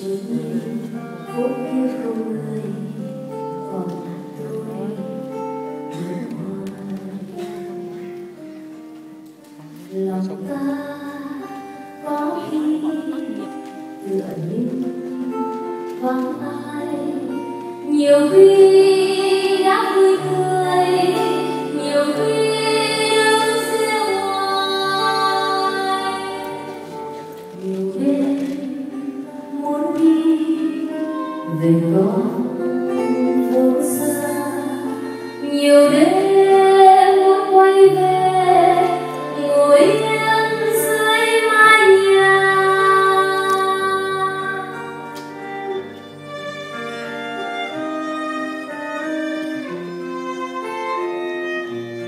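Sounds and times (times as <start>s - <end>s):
woman singing: 0.0s - 8.2s, 9.8s - 45.8s
acoustic guitar: 0.0s - 52.0s
violin: 0.0s - 52.0s.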